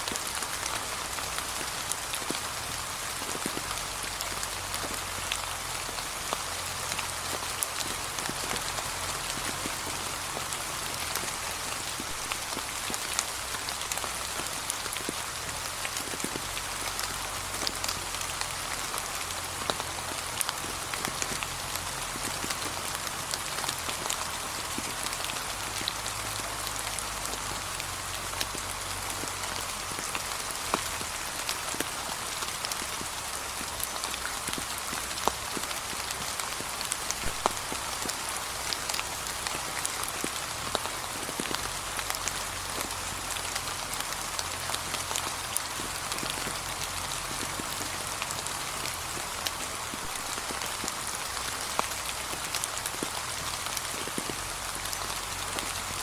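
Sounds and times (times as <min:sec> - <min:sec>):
light rain on leaves: 0:00.0 - 0:56.0.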